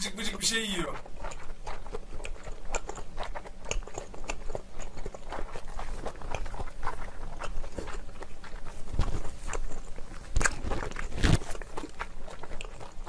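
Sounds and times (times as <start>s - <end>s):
mouth clicks: 0.0s - 13.0s
wet chewing and smacking: 0.0s - 13.0s.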